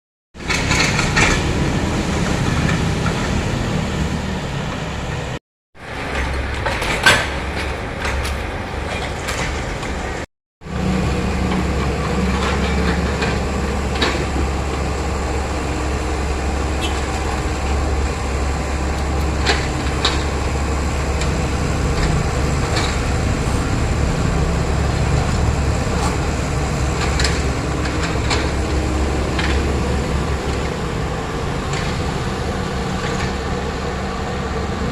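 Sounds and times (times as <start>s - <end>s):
excavator diesel engine under load: 0.4s - 34.9s.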